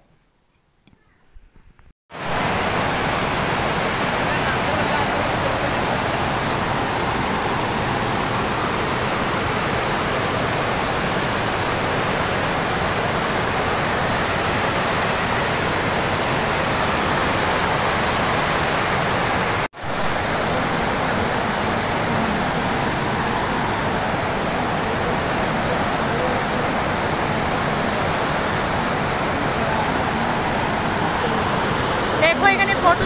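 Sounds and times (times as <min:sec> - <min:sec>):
water rushing down spillway: 0:02.1 - 0:33.0.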